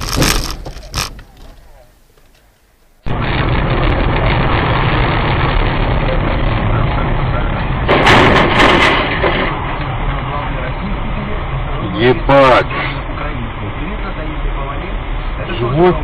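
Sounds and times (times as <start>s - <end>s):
vehicle road and engine noise: 0.0s - 16.0s
harsh burst of noise: 3.0s - 16.0s.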